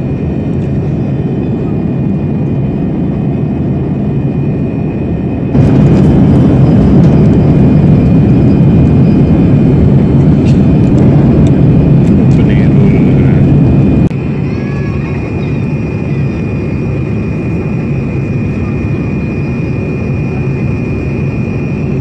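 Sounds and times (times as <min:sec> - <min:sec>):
airplane cabin noise: 0:00.0 - 0:22.0.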